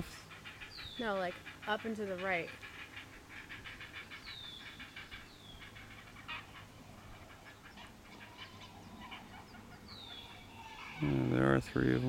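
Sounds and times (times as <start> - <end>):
birds chattering calls: 0.0 - 12.0
bird squealing: 0.2 - 12.0.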